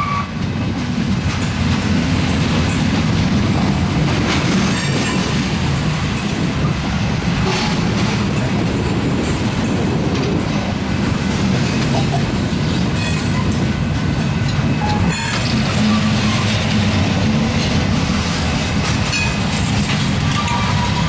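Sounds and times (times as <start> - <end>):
steel wheels rumbling on rails: 0.0 - 21.0
wheels clicking over rail joints: 0.3 - 21.0.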